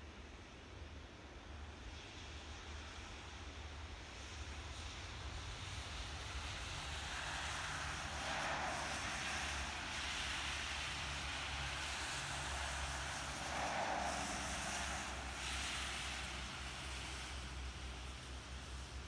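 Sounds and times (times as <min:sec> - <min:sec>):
tyres hissing on wet road: 0:00.1 - 0:19.0.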